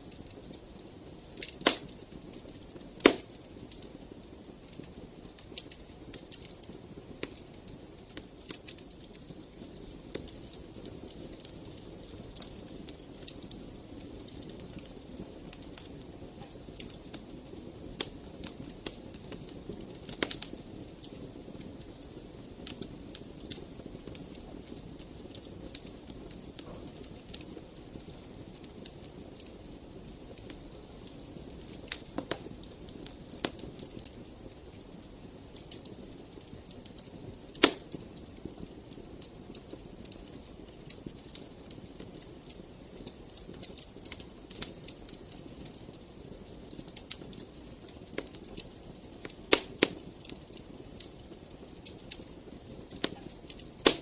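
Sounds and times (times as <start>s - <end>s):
fire snaps and pops: 0.0s - 54.0s
low rush of flame: 0.0s - 54.0s
wood fire crackling: 0.0s - 54.0s.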